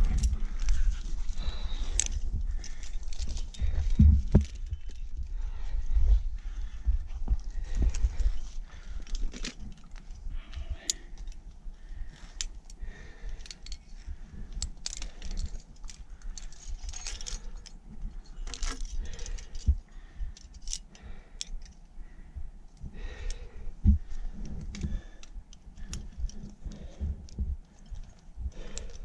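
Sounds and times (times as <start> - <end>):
climbing gear clinking: 0.0 - 21.9, 23.0 - 29.0.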